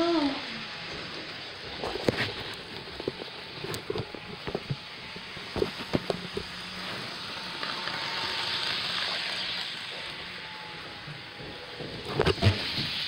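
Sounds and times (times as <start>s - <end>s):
toy train whirring: 0.0s - 13.0s.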